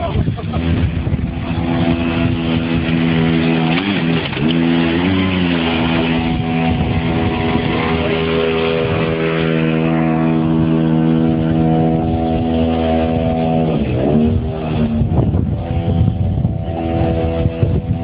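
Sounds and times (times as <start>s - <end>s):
small engine running: 0.4s - 18.0s.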